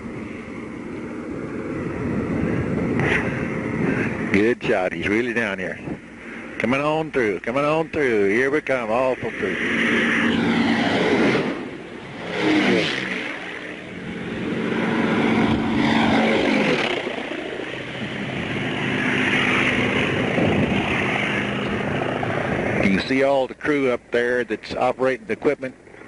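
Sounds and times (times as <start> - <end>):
bomber propeller engines droning: 0.0 - 26.0
propeller fighter plane passing: 0.0 - 26.0.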